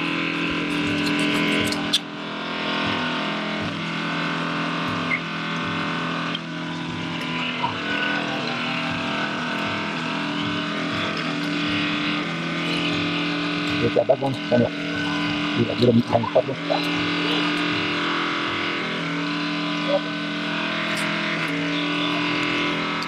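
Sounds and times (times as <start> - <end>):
motor droning: 0.0 - 23.0.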